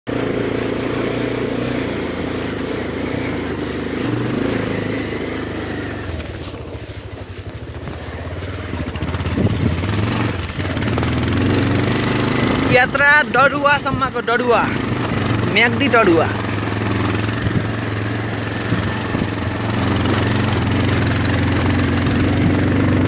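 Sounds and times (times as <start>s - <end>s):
motorcycle engine running: 0.1s - 23.0s.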